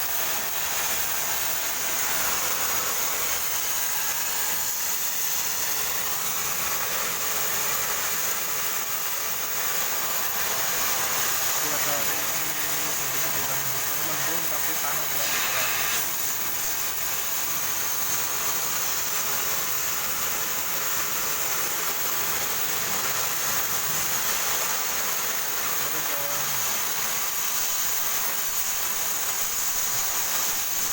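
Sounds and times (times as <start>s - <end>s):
welding arc hissing: 0.0s - 30.9s.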